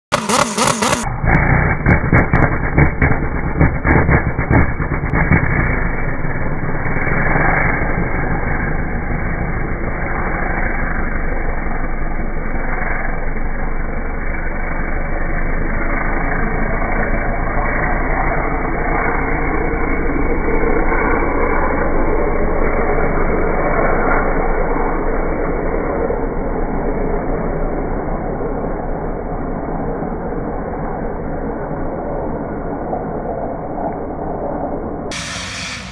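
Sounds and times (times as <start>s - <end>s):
deep dull engine drone: 0.1s - 35.9s.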